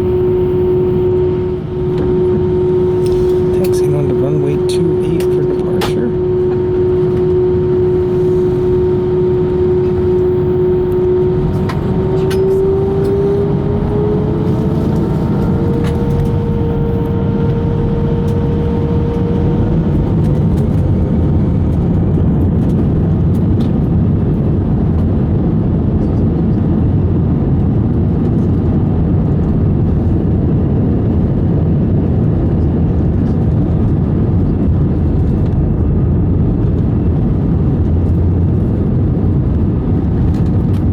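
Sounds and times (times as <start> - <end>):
jet engine cabin rumble: 0.0 - 40.9
whining engine tone: 0.0 - 40.9.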